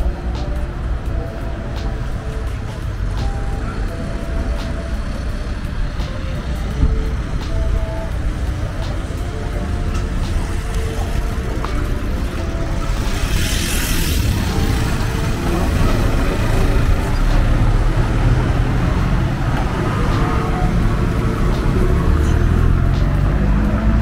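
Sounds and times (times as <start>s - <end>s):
vehicles passing: 0.0s - 24.0s.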